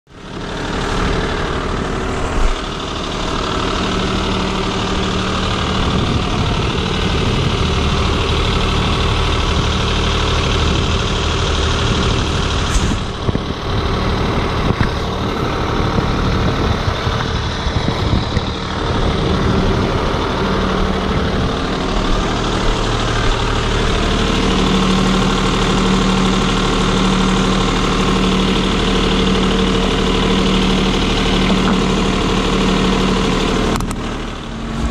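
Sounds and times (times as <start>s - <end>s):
mower diesel engine running: 0.1s - 34.9s.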